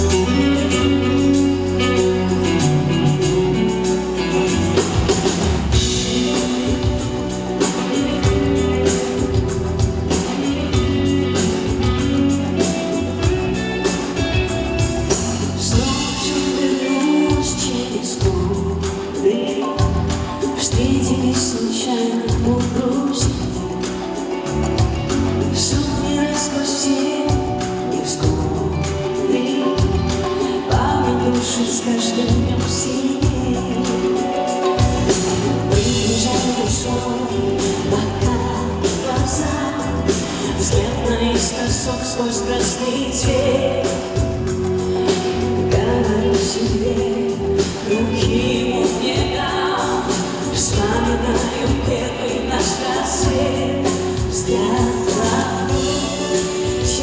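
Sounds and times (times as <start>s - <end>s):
live pop song with beat: 0.0s - 57.0s.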